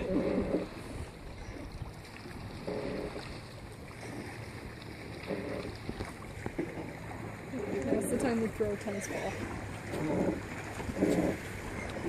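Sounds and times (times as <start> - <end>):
water around kayak: 0.0 - 12.0.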